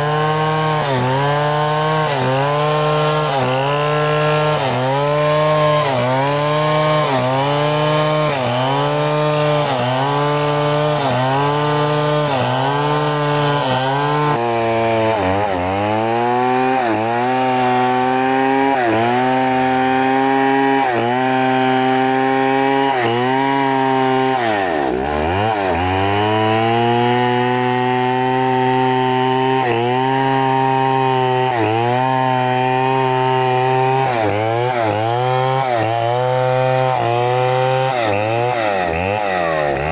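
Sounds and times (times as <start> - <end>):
chainsaw cutting log at full throttle: 0.0 - 39.9.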